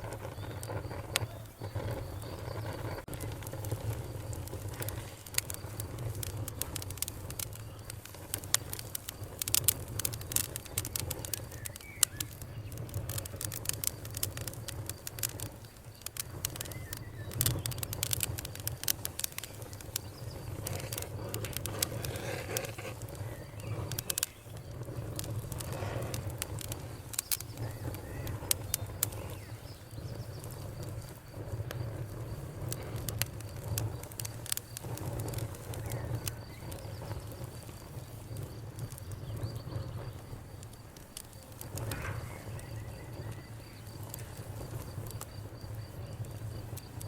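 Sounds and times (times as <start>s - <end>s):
campfire crackling and popping: 0.0s - 47.0s
low rumble of burning: 0.0s - 47.0s.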